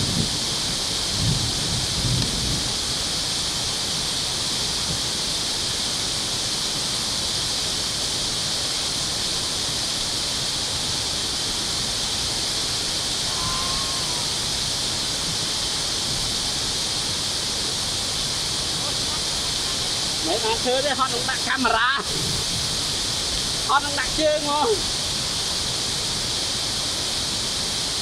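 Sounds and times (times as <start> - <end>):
water rushing through a dam: 0.0 - 28.0.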